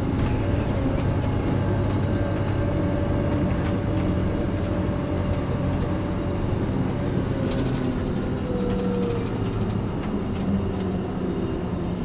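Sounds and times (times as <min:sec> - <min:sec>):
coach engine rumble: 0:00.0 - 0:12.0.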